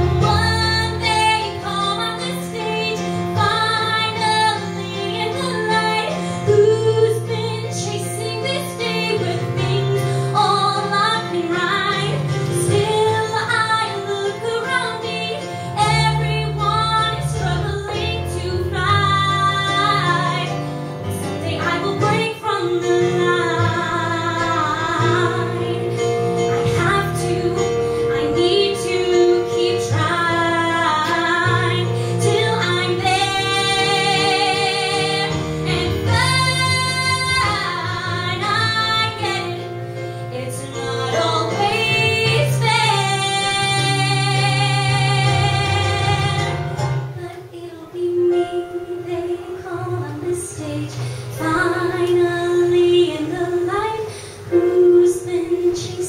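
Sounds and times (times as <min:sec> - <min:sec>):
instrumental accompaniment: 0:00.0 - 0:56.0
woman singing into a microphone: 0:00.0 - 0:56.0.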